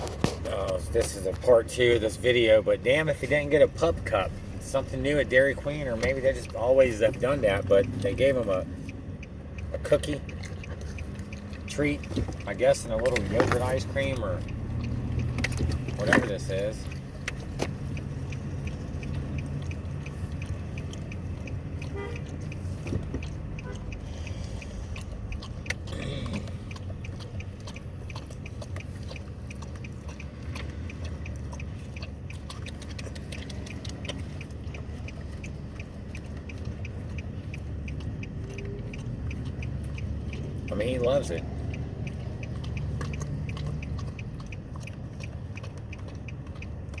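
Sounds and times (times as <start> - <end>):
dog licking and chewing: 0.0 - 47.0.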